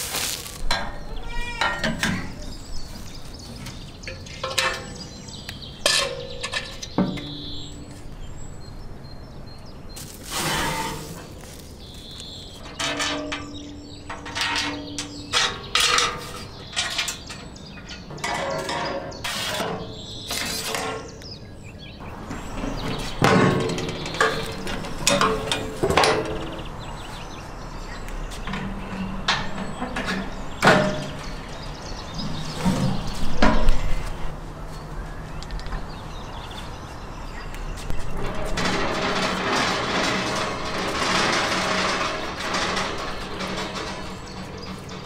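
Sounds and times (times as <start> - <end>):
metal clanking of smoker grates: 0.0 - 8.2, 10.0 - 34.3, 37.8 - 45.0.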